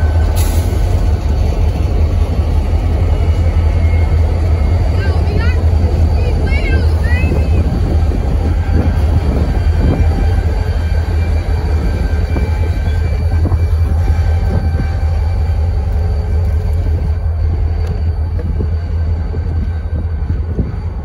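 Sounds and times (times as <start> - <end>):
locomotive engines droning: 0.0 - 21.0.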